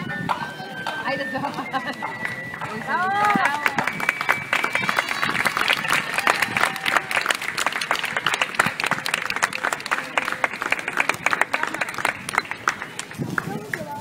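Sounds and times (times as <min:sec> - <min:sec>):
crowd applauding: 0:01.8 - 0:14.0.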